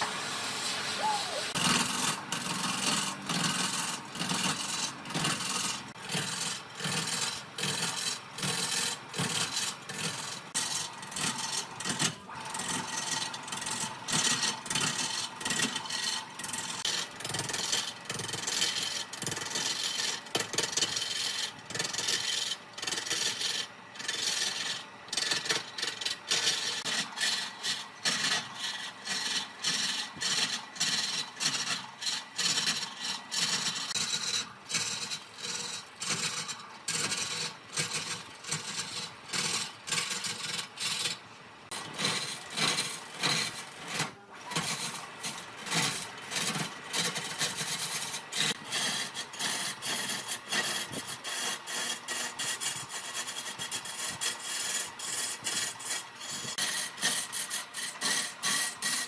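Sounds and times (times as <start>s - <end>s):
rasping rubbing on hard surface: 0.7s - 59.0s.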